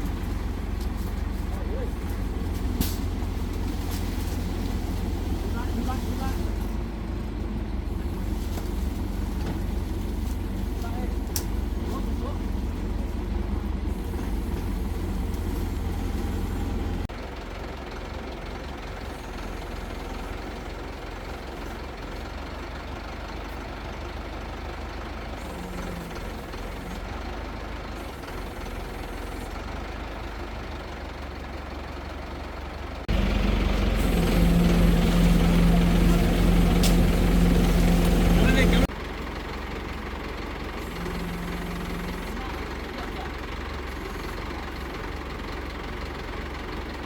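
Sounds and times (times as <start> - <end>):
crane engine running: 0.0 - 47.0.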